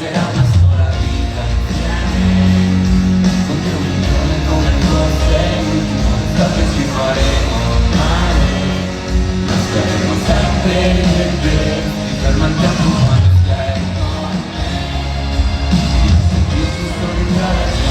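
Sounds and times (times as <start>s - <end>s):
live band music: 0.0s - 17.9s
person singing: 0.0s - 17.9s
bass line: 0.2s - 17.9s.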